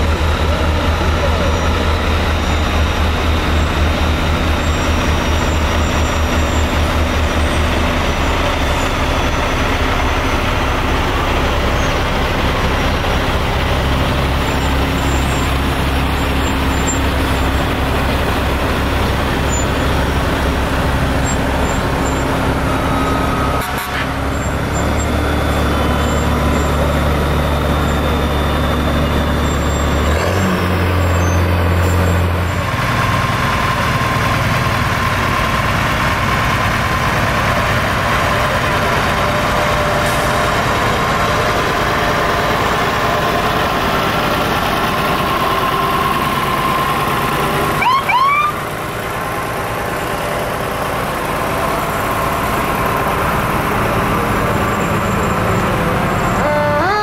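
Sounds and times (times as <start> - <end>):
diesel truck engine passing: 0.0 - 57.0.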